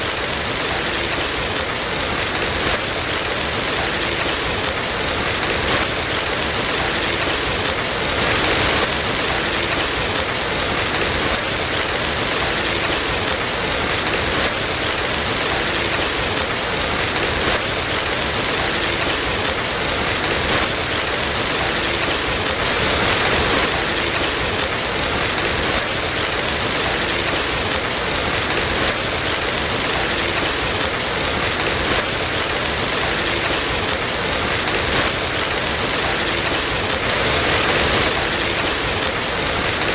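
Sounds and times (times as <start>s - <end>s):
dense rain hissing: 0.0s - 39.9s.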